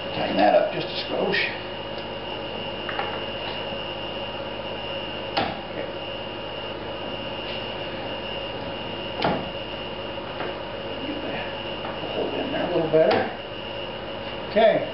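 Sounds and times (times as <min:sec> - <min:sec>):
workshop hum with high whine: 0:00.0 - 0:14.9.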